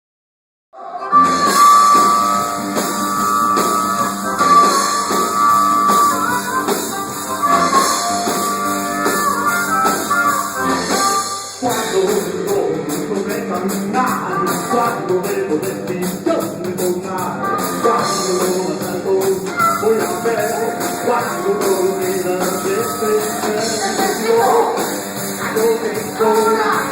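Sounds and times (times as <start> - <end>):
rock guitar and drums: 1.0 - 26.9.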